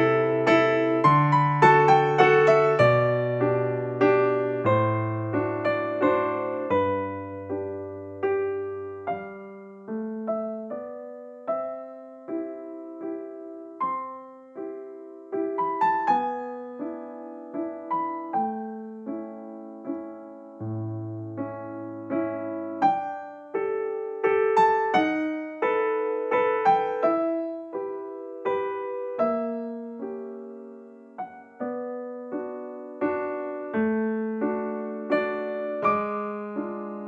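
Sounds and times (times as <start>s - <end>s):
slow gentle piano music: 0.0s - 37.0s.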